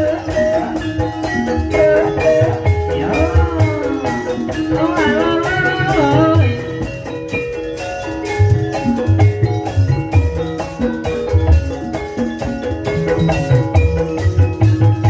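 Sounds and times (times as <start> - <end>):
tuned mallet percussion: 0.0 - 15.0
wavering bending melody: 0.0 - 15.0.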